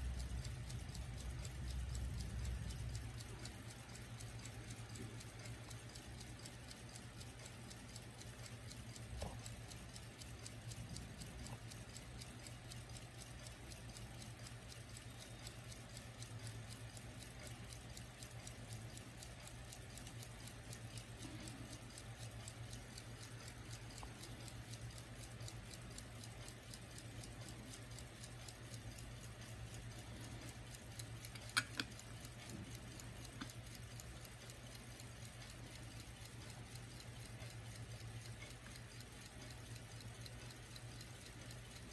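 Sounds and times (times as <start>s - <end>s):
pocket watch ticking: 0.0s - 41.9s
steady low hum: 0.0s - 41.9s.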